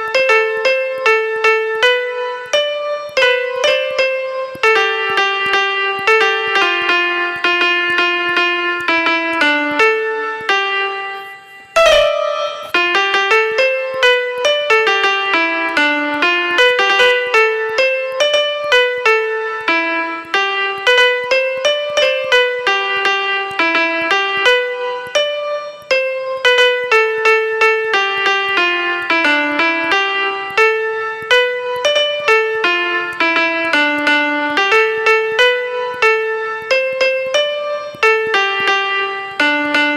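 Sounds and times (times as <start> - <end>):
piano-like keyboard melody: 0.0 - 39.9.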